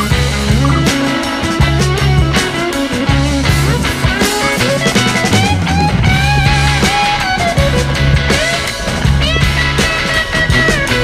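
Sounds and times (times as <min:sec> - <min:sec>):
rock music with guitar and bass: 0:00.0 - 0:11.0.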